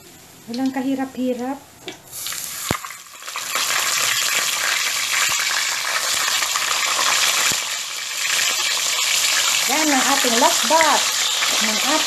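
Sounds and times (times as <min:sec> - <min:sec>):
fish sizzling in hot oil: 0:02.1 - 0:12.0.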